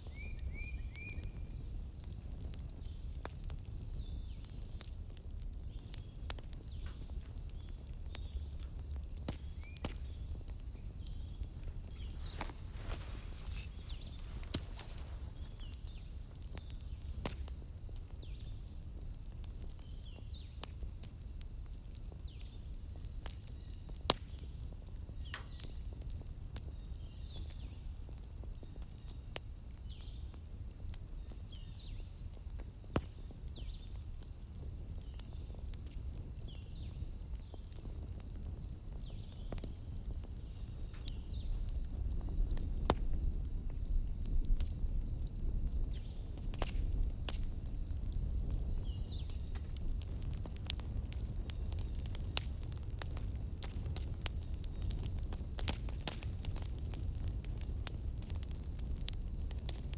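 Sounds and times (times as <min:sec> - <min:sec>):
fire crackling pops: 0:00.0 - 0:59.9
wood fire rumbling: 0:01.6 - 0:25.0, 0:34.0 - 0:59.9.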